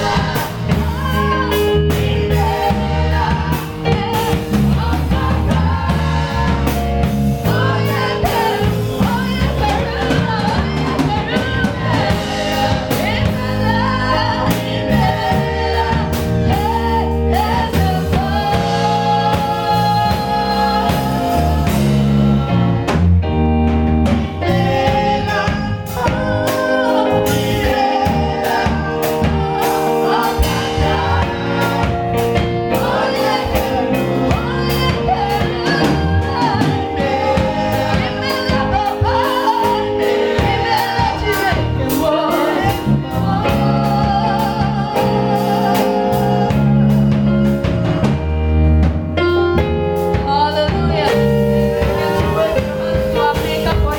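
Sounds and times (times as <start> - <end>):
gospel group singing with band: 0.0 - 53.9.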